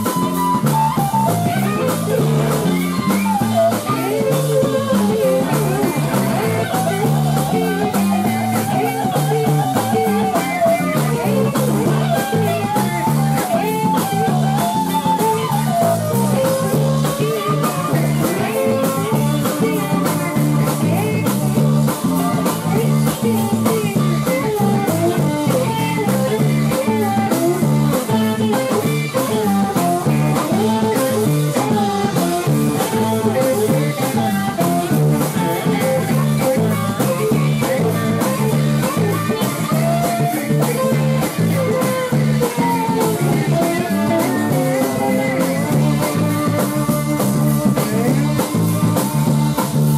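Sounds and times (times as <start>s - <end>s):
accordion: 0.0s - 49.9s
bass guitar: 0.0s - 49.9s
drum kit: 0.0s - 49.9s
electric guitars: 0.0s - 49.9s.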